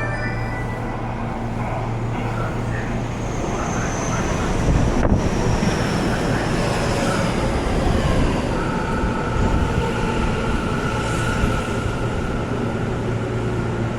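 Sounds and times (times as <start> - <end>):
electric train rumble: 0.0 - 13.9.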